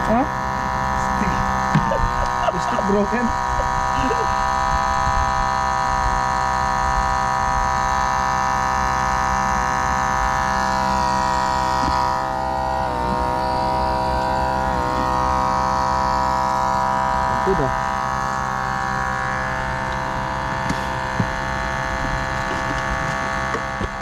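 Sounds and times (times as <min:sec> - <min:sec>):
air pump buzzing hum: 0:00.0 - 0:24.0.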